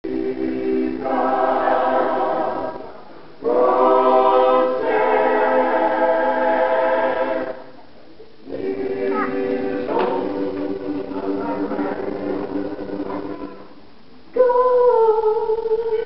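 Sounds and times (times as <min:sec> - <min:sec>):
choir singing unaccompanied: 0:00.0 - 0:07.8, 0:08.4 - 0:13.8.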